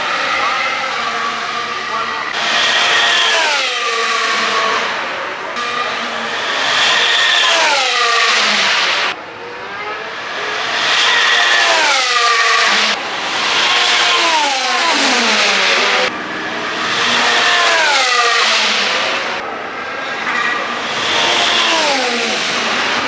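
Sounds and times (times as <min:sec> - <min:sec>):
racing cars passing by: 0:00.0 - 0:23.0.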